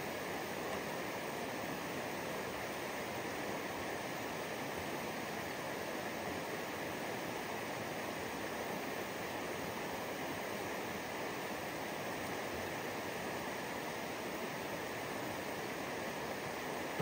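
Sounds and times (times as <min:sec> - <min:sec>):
creek rushing: 0:00.3 - 0:17.0.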